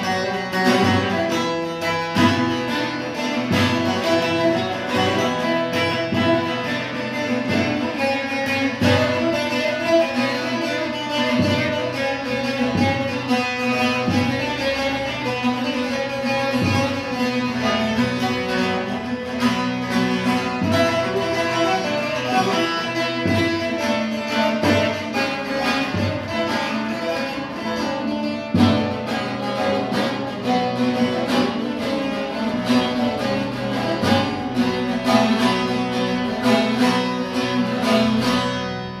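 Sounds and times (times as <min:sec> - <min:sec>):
plucked saz melody: 0:00.0 - 0:39.0.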